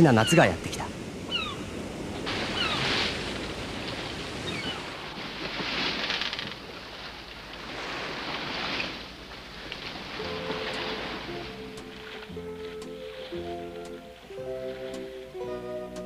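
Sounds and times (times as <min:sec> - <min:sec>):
sea waves: 0:00.0 - 0:16.0
water splashing: 0:00.0 - 0:16.0
wind: 0:00.0 - 0:16.0.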